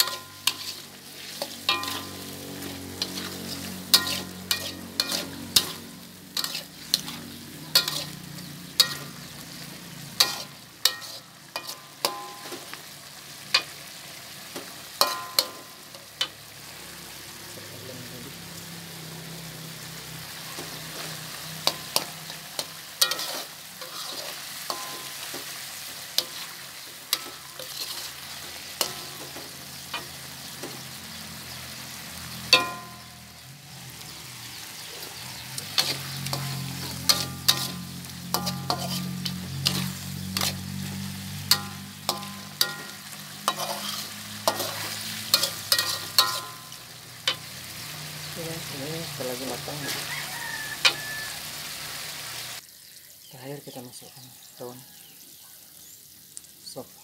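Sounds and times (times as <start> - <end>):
metal spatula scraping wok: 0.0 - 17.5, 19.4 - 52.6
sizzling: 0.0 - 57.0.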